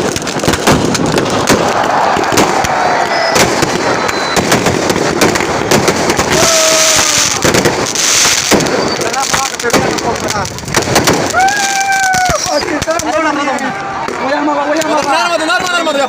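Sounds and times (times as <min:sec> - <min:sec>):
fireworks cracking and popping: 0:00.0 - 0:16.0.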